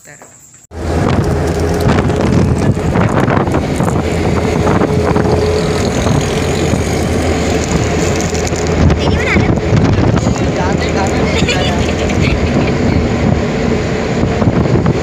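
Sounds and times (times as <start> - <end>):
vehicle engine and road noise: 0.7 - 15.0
wind buffeting microphone: 0.7 - 15.0.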